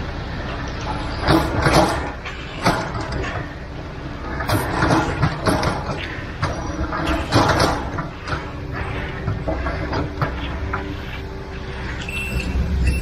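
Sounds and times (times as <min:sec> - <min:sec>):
concrete mixer truck rumbling: 0:00.0 - 0:13.0.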